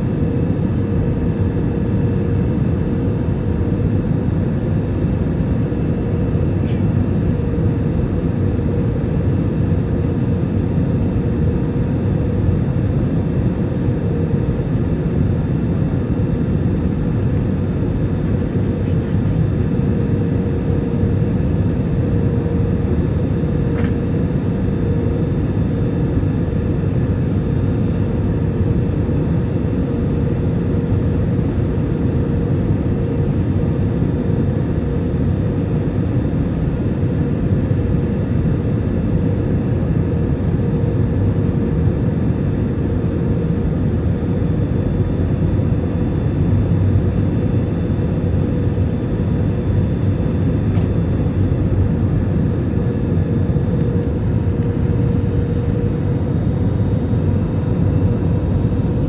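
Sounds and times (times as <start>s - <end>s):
jet engine and airflow rush: 0.0s - 59.0s.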